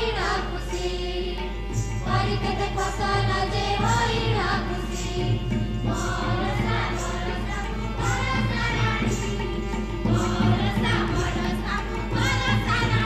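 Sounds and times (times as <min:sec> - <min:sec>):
voices singing together: 0:00.0 - 0:13.0.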